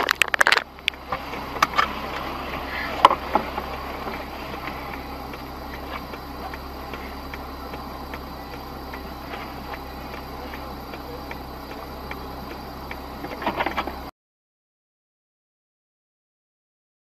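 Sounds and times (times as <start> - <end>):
car indicator ticking: 0.0 - 14.1
low car hum: 0.0 - 14.1
sharp clicks and knocks: 0.0 - 14.1.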